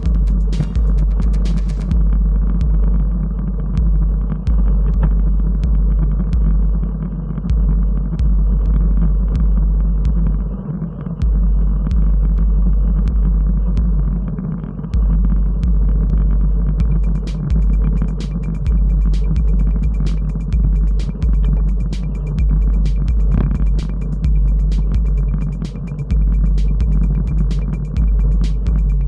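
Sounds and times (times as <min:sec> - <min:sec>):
muffled electronic music: 0:00.0 - 0:29.0.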